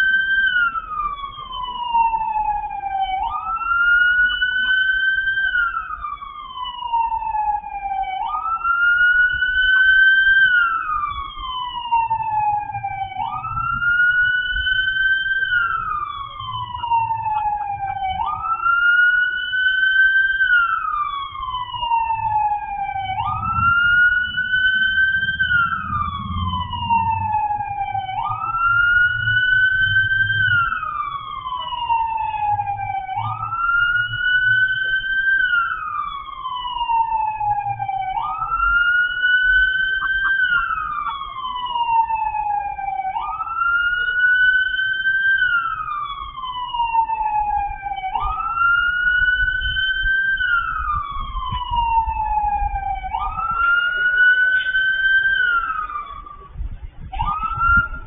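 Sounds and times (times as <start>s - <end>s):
police siren wailing: 0.0s - 58.0s.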